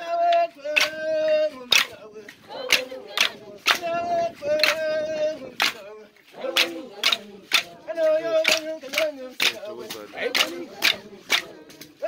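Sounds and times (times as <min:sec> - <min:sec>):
group of voices chanting: 0:00.0 - 0:12.0.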